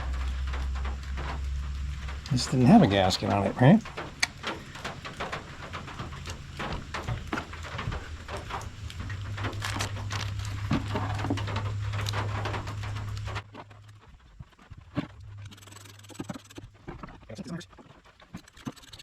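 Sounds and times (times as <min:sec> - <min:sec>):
small parts clicking and tapping: 0:00.0 - 0:19.0
steady low hum: 0:00.0 - 0:19.0.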